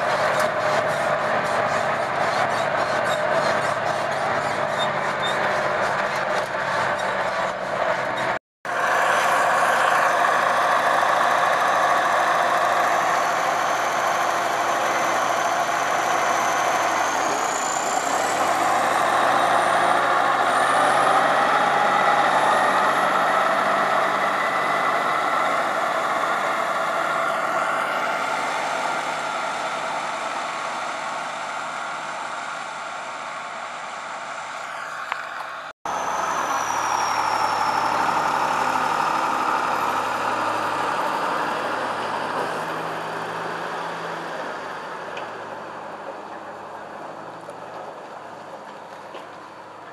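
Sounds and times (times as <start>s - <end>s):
different engine running: 0.0s - 49.3s
tractor diesel engine running: 0.0s - 49.9s.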